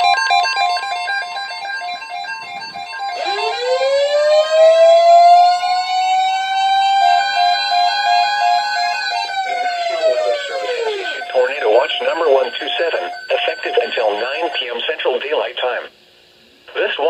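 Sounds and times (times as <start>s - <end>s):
siren-like rising tone: 0.0s - 14.6s
repeating keyboard-like notes: 0.0s - 15.3s.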